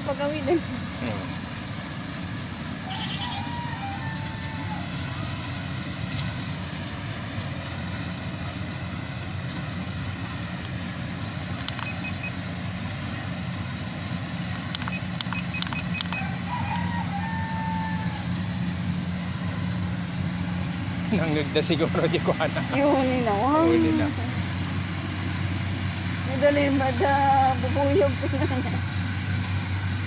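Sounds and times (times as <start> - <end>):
motor hum with high whine: 0.0 - 30.0.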